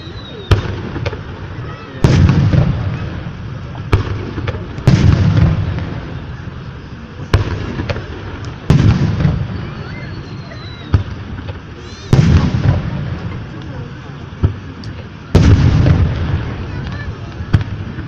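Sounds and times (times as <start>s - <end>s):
faint fireworks pops: 0.0s - 18.0s
fireworks booming: 0.0s - 18.0s
low rolling rumble: 0.0s - 18.0s.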